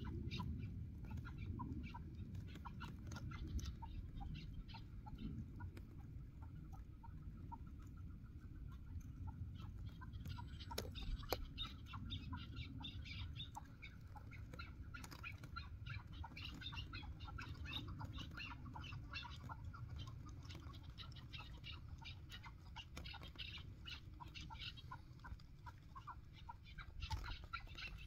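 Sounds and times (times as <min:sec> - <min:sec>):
low steady rumble: 0:00.0 - 0:28.0.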